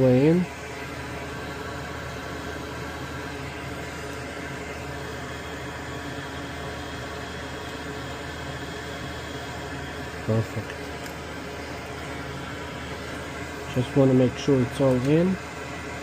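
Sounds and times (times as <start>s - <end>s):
fan humming and hissing: 0.0s - 16.0s.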